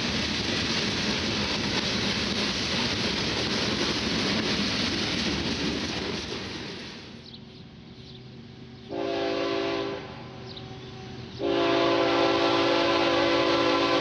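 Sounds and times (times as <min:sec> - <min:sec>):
freight train cars rolling past: 0:00.0 - 0:14.0.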